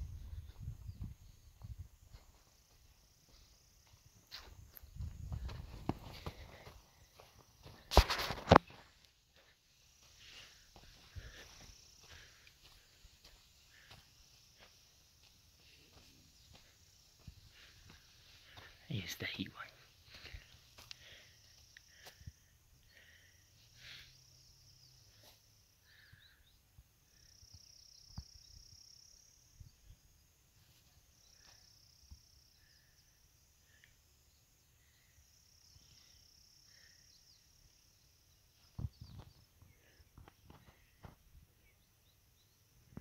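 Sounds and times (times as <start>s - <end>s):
soft chirps: 0.0s - 43.0s.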